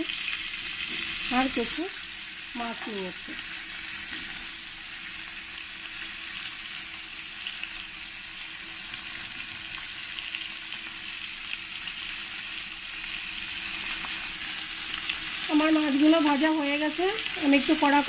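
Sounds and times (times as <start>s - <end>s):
fish frying in hot oil: 0.0s - 18.0s.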